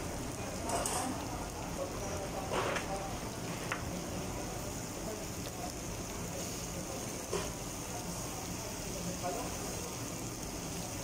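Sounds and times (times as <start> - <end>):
faint background chatter: 0.0 - 11.0
ventilation hum: 0.0 - 11.0.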